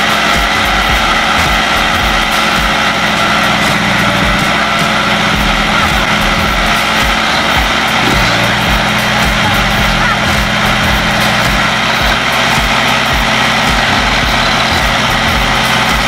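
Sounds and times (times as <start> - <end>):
diesel engine running: 0.0 - 16.0
irregular low thuds: 0.4 - 16.0.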